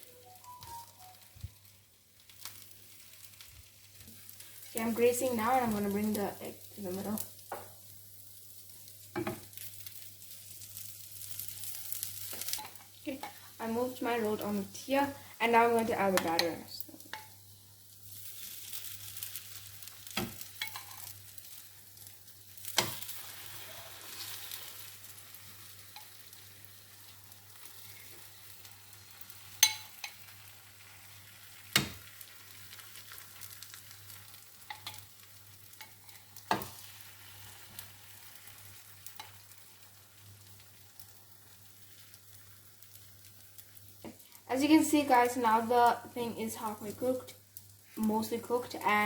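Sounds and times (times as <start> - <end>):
batter sizzling in a frying pan: 0.2 - 49.0.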